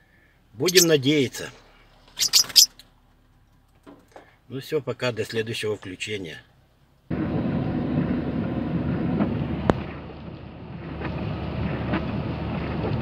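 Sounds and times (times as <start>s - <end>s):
car road and engine noise: 0.1s - 4.6s, 5.9s - 13.0s.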